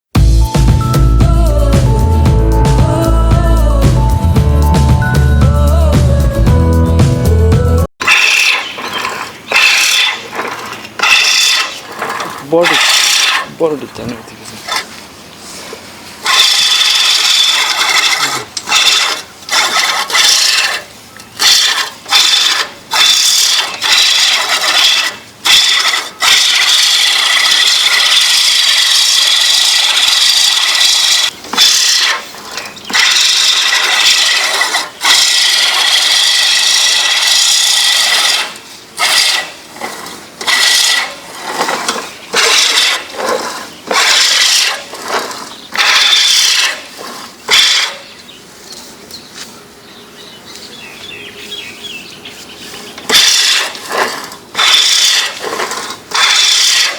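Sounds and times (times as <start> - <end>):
reel lawn mower whirring: 8.0 - 49.6, 50.5 - 56.9.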